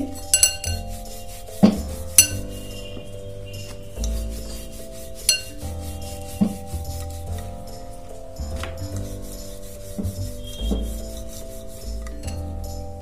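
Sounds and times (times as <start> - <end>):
soft background music: 0.0 - 13.0
rolling pin rubbing rumble: 0.6 - 12.9.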